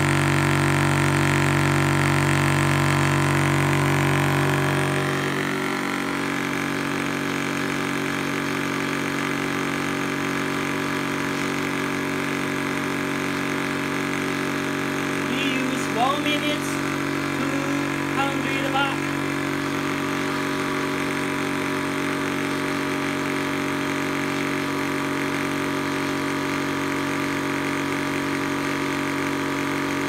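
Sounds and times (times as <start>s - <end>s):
air compressor droning: 0.0s - 30.0s.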